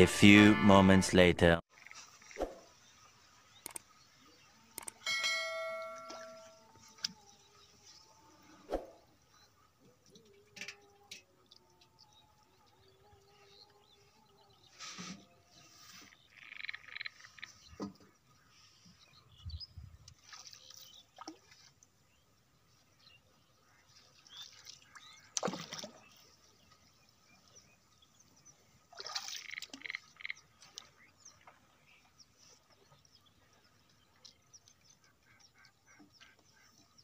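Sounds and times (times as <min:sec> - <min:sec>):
pond water splashing and dripping: 0:01.7 - 0:12.8, 0:14.7 - 0:19.2, 0:19.9 - 0:37.0.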